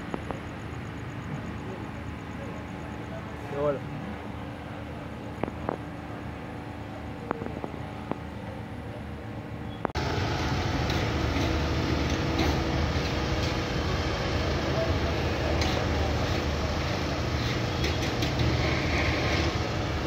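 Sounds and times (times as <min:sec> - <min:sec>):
loud steady rumbling: 0:00.0 - 0:20.0.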